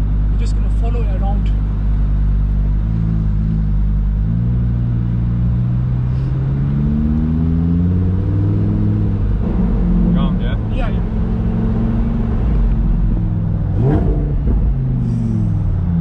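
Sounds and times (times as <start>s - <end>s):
car engine accelerating: 1.4s - 16.0s.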